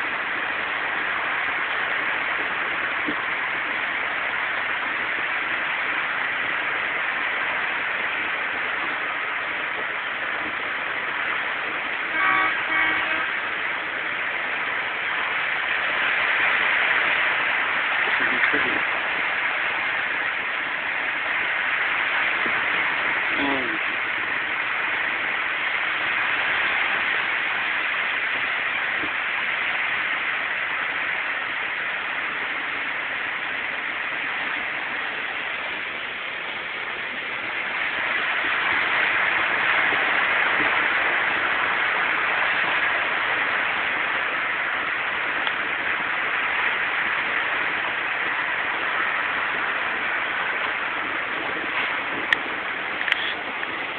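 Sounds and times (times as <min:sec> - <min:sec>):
floodwater rushing hiss: 0:00.0 - 0:53.9.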